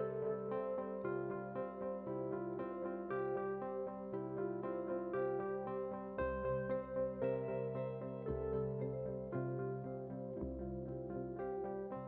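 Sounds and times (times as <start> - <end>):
soft ambient keyboard music: 0.0 - 12.0.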